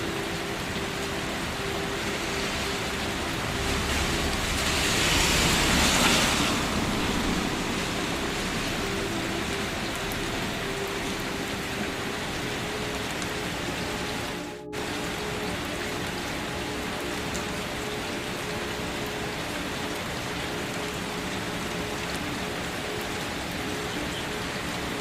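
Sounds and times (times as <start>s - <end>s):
steady rain hissing: 0.0s - 25.0s.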